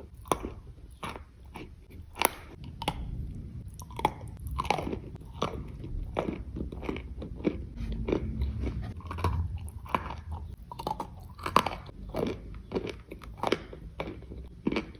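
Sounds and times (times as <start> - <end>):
clay being chewed with crunches: 0.0 - 14.9.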